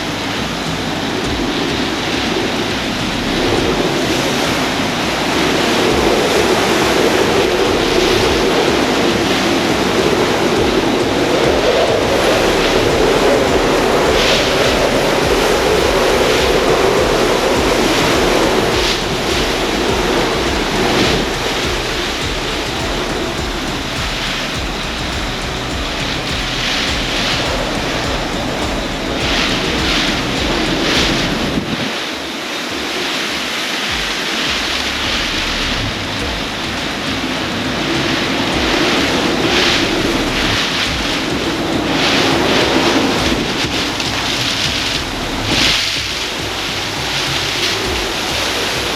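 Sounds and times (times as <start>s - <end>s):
heavy rain: 0.0s - 48.9s
violent wind: 0.0s - 48.9s.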